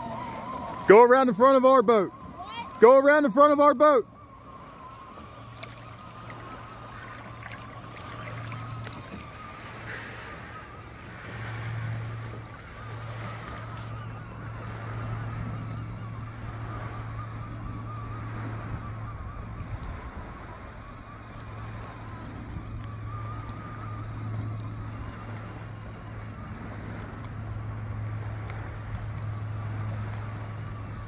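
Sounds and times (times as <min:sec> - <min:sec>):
faint wavering whine: 0:00.0 - 0:31.0
low motor hum: 0:00.0 - 0:31.0.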